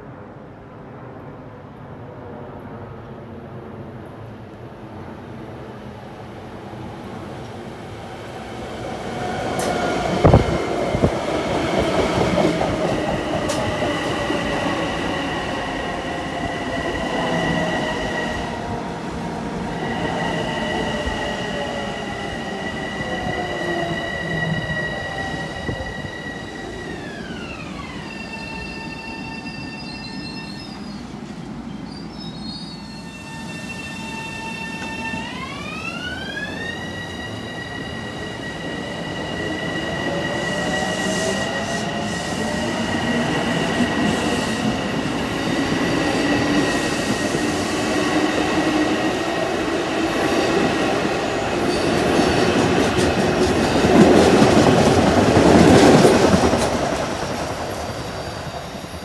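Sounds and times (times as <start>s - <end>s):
electric train whine: 4.1s - 59.0s.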